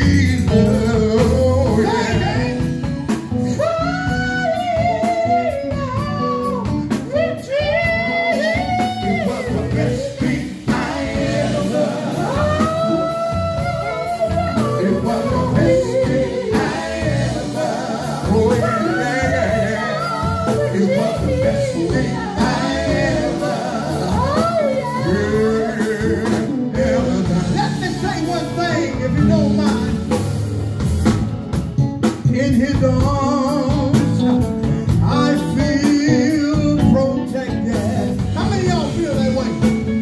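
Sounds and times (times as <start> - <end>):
gospel singing: 0.0 - 30.4, 32.2 - 40.0
backing band with keyboard: 0.0 - 40.0.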